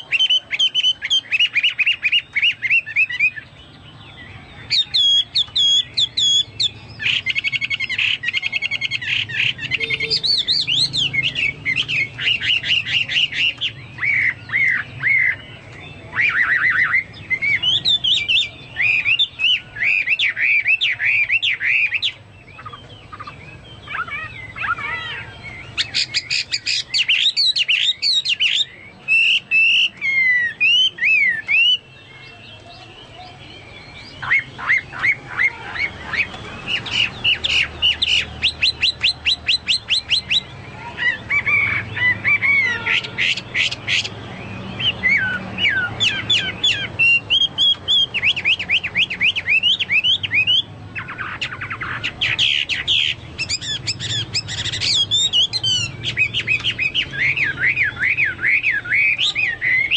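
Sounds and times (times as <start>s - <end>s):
bird singing loud whistled song: 0.0s - 59.9s.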